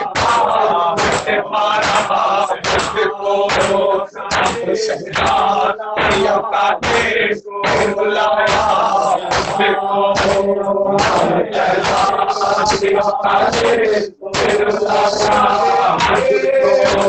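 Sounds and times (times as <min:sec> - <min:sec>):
men chanting a lament: 0:00.0 - 0:17.0
palms slapping chests: 0:00.0 - 0:17.0.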